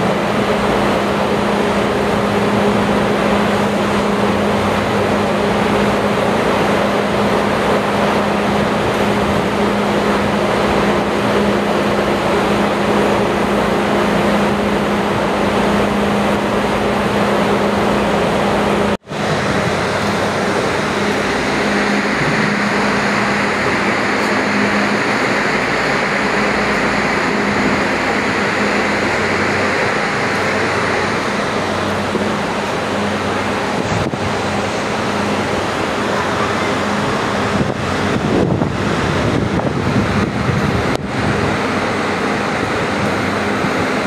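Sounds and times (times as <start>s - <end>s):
loud machinery drone: 0.0s - 44.0s.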